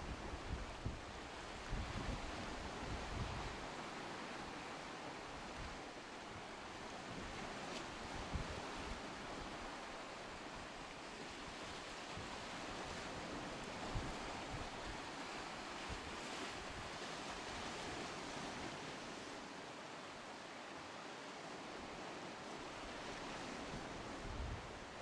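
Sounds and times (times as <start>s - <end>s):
sea surf: 0.0s - 25.0s
wind: 0.0s - 25.0s.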